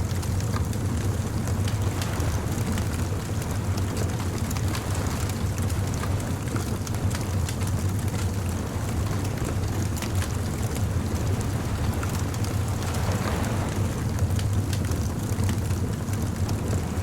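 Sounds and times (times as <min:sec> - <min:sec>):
bonfire crackling and popping: 0:00.0 - 0:17.0
low rumble of surf: 0:00.0 - 0:17.0.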